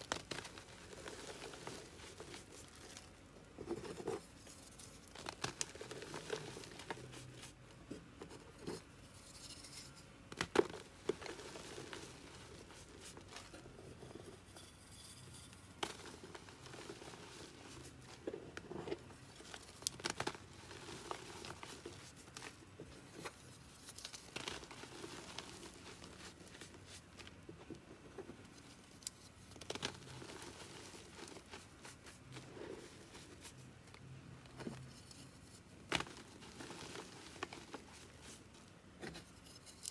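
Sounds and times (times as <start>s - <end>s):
chalk crunching and crumbling: 0.0s - 7.6s, 8.2s - 14.2s, 14.9s - 39.9s.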